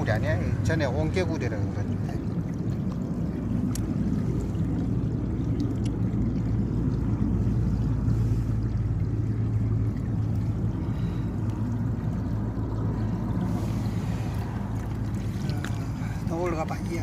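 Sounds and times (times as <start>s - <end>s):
water running in a channel: 0.0s - 17.0s.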